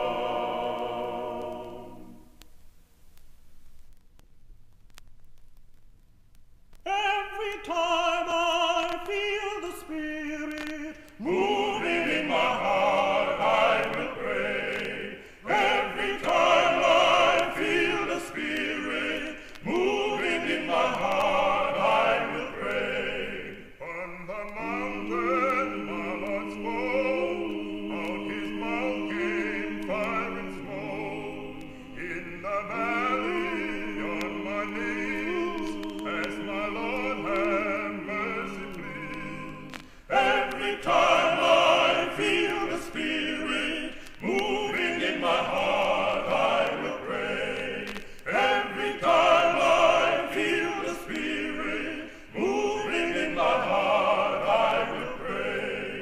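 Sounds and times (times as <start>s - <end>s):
male vocal quartet singing: 0.0s - 2.3s, 6.9s - 56.0s.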